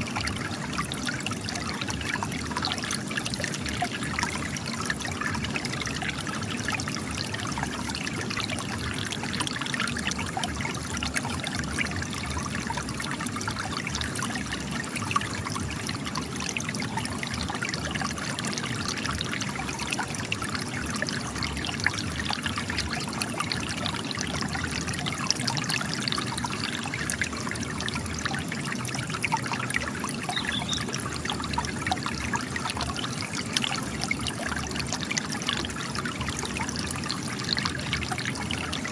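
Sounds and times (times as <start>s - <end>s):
spring water gushing and trickling: 0.0s - 38.9s.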